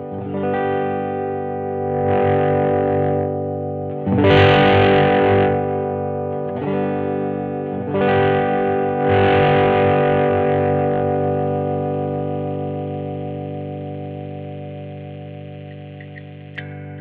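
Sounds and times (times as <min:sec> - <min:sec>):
distorted electric guitar chords: 0:00.0 - 0:17.0.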